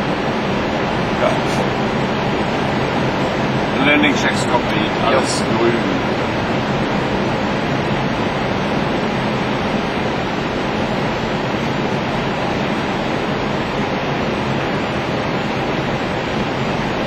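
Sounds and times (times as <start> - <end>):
cockpit airflow and engine noise: 0.0 - 17.0.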